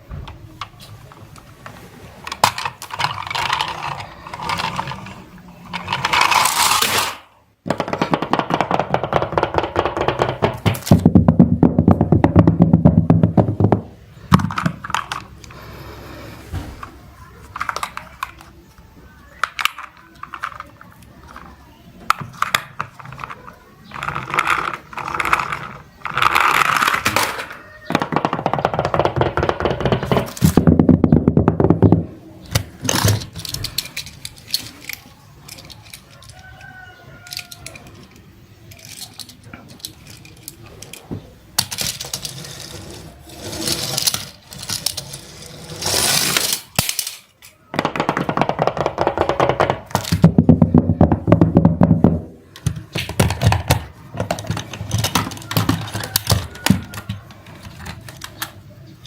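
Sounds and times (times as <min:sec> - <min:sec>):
small hard objects clattering: 0:00.6 - 0:18.6, 0:19.2 - 0:59.0.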